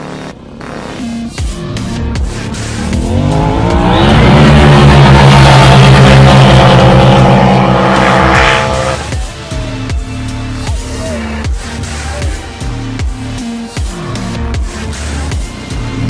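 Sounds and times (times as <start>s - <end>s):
utv engines revving: 0.0s - 16.0s.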